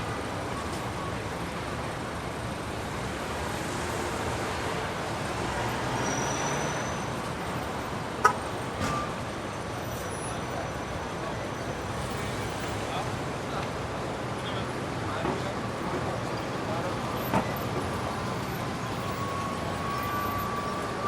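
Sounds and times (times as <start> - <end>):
passing cars: 0.0 - 21.0.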